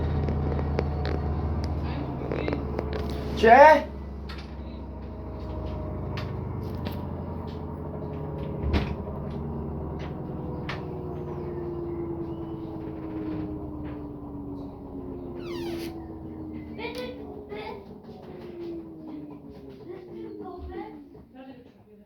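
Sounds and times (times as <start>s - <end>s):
low hum: 0.0s - 21.3s
washing machine motor whine: 0.0s - 22.0s.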